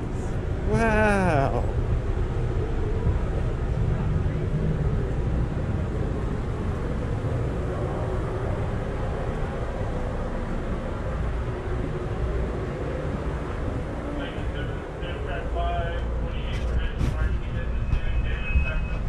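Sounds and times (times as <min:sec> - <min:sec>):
passenger train interior rumble: 0:00.0 - 0:19.0.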